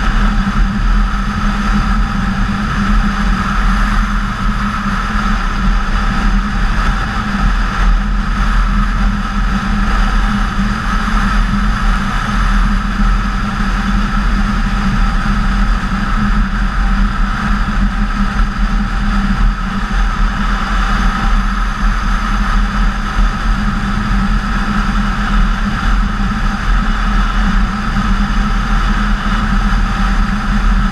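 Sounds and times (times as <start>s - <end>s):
wind and road noise: 0.0s - 30.9s.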